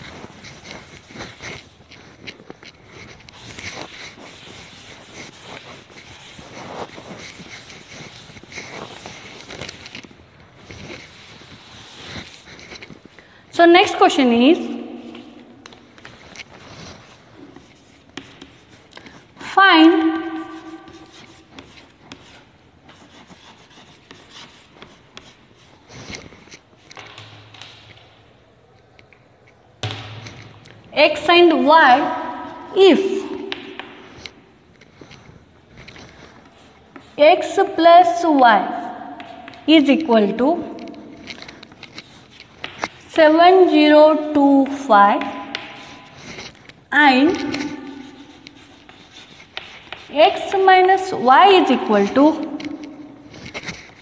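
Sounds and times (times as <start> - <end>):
cloth wiping chalkboard: 0.0 - 27.9, 30.1 - 54.0.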